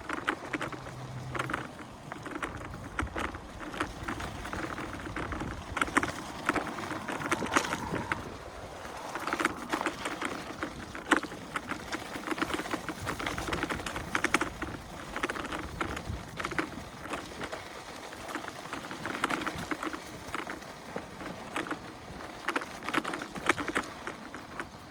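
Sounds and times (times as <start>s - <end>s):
wheel crunching on dirt: 0.0s - 24.9s
wind rumble on microphone: 0.0s - 24.9s.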